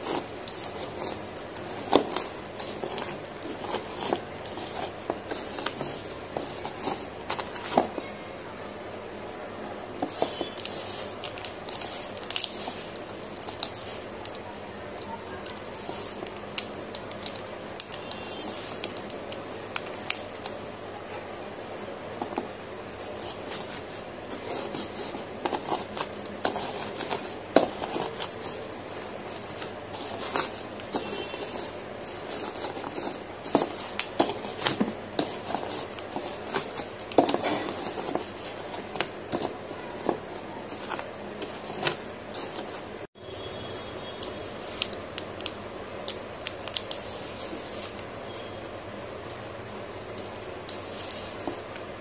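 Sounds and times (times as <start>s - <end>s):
clay crumbs crackling by hand: 0.0s - 43.2s, 43.9s - 52.0s.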